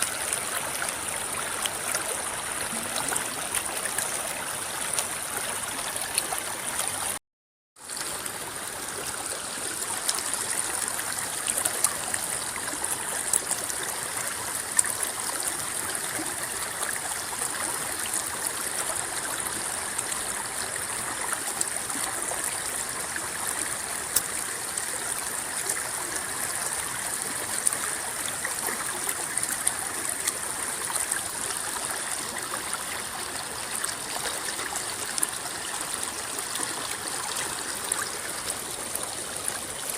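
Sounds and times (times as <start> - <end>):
river water flowing and rippling: 0.0 - 7.2, 7.8 - 39.9.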